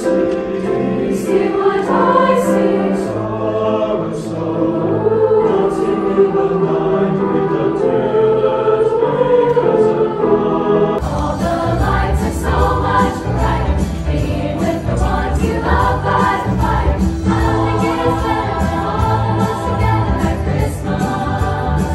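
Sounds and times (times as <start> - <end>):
choir singing: 0.0 - 21.9.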